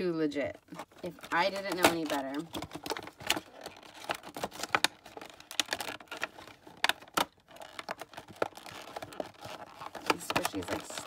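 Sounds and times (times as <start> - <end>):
plastic packaging crinkling: 0.6 - 11.0.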